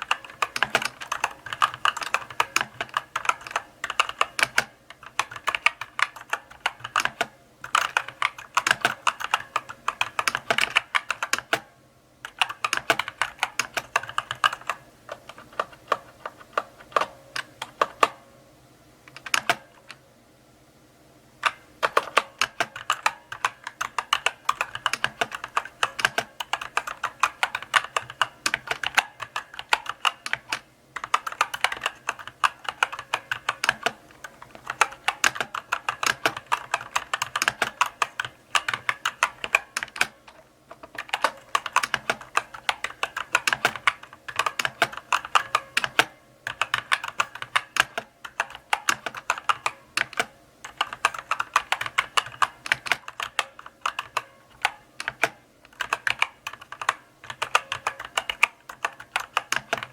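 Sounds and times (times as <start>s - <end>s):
mechanical keyboard typing: 0.0s - 18.2s, 19.1s - 20.0s, 21.4s - 59.9s.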